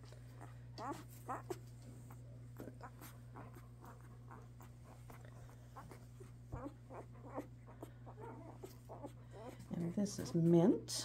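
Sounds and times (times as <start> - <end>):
low steady hum: 0.0 - 11.0
puppy squeaking and grunting: 0.3 - 9.7.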